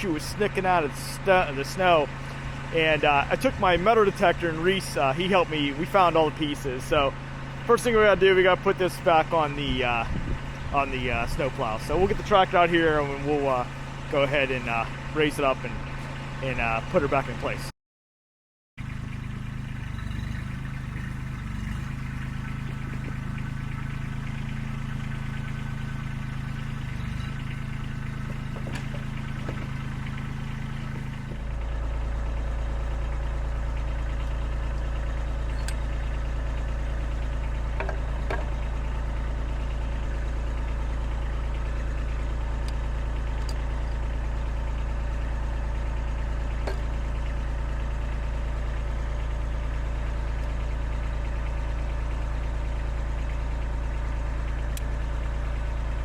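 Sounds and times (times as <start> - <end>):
diesel tractor engine idling: 0.0 - 17.7, 18.8 - 56.0.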